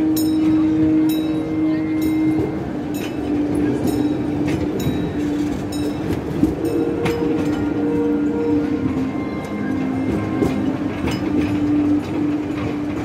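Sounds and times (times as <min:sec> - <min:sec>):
steady wavering tone: 0:00.0 - 0:13.0
train wheels clicking over rail joints: 0:00.0 - 0:13.0.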